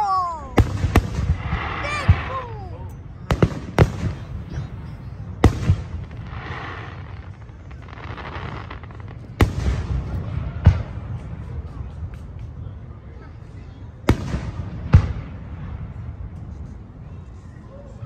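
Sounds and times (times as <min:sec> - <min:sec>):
firework booms: 0:00.0 - 0:12.6, 0:14.0 - 0:16.9.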